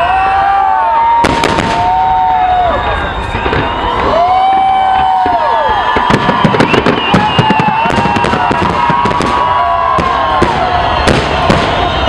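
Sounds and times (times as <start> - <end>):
firework whistles: 0.0 - 12.0
fireworks bangs and crackles: 0.0 - 12.0.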